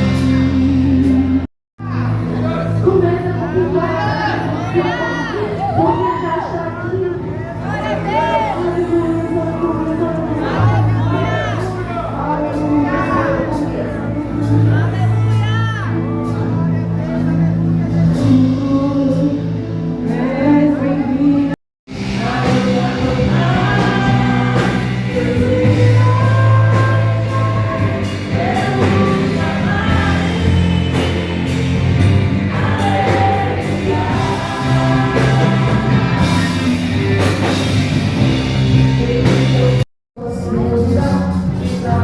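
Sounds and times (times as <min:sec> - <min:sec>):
worship music with singing: 0:00.0 - 0:42.0.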